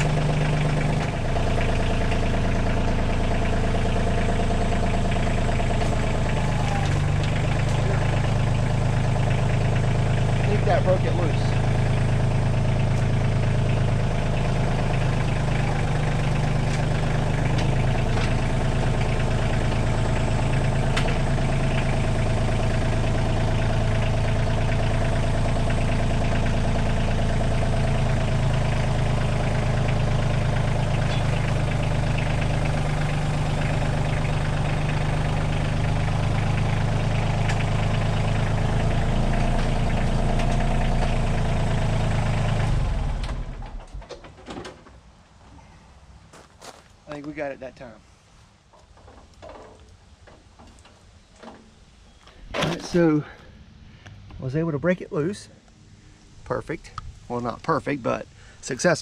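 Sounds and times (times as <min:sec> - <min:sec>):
tractor diesel engine running: 0:00.0 - 0:45.3, 0:46.1 - 0:59.0.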